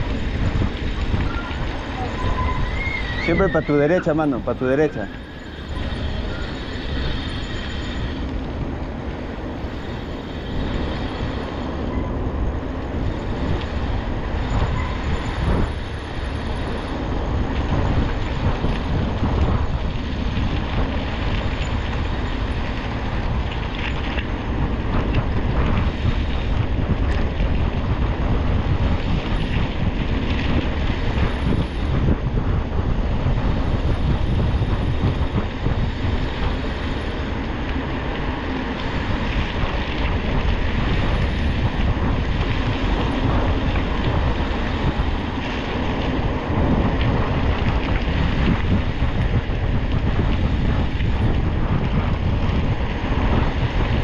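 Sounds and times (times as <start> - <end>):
continuous rattling rumble: 0.0 - 54.0
wind buffeting microphone: 0.0 - 54.0.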